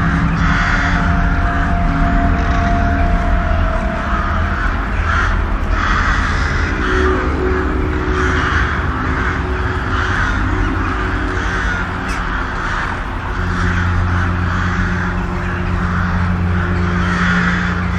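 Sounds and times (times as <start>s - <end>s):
crows cawing: 0.0s - 17.9s
low droning hum: 0.0s - 17.9s.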